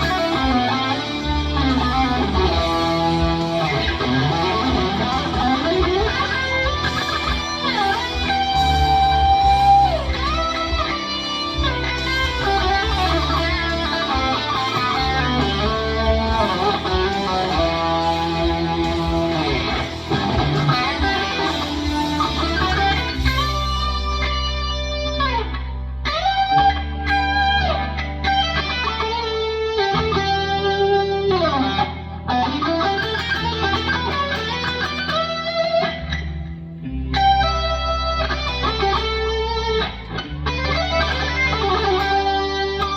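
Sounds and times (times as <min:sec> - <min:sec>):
electric guitar lead: 0:00.0 - 0:42.9.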